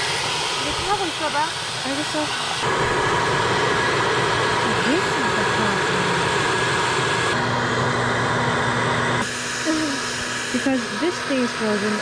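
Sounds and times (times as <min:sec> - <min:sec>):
hair dryer whining: 0:00.0 - 0:12.0.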